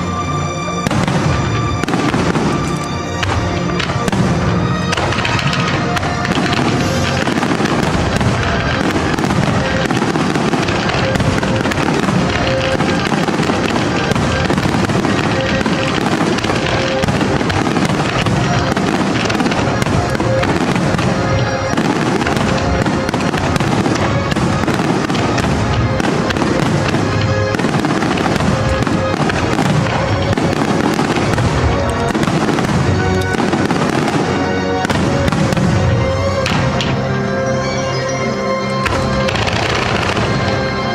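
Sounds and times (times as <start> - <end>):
fireworks crackling bursts: 0.0 - 40.9
music playing: 0.0 - 40.9.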